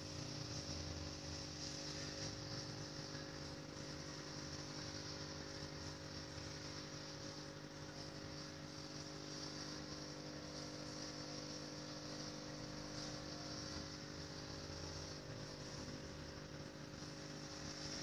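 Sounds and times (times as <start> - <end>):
constant hiss: 0.0 - 18.0
faint electrical hum: 0.0 - 18.0.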